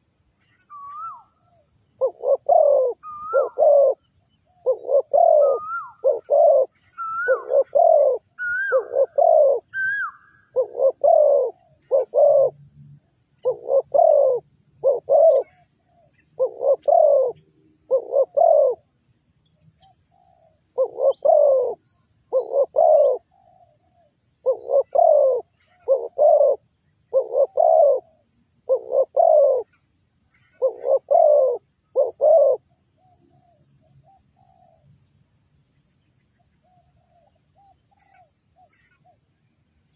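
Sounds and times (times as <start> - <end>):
small birds chirping: 0.0 - 39.9
dove cooing: 0.4 - 12.6, 13.4 - 18.8, 19.8 - 34.8, 36.6 - 39.2.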